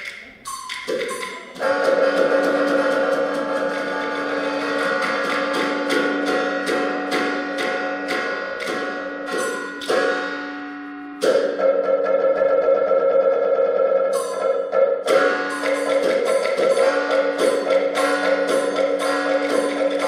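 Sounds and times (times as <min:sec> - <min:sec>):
woodblock strokes: 0:00.0 - 0:13.1, 0:14.1 - 0:20.0
ringing gongs and cymbals: 0:01.2 - 0:11.9, 0:14.2 - 0:20.0.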